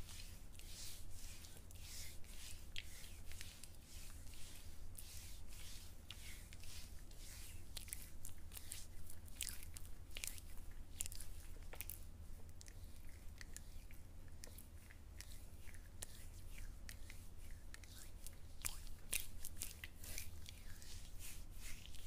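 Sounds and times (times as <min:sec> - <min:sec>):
scrub rasping on skin: 0:00.0 - 0:12.0, 0:12.6 - 0:22.0.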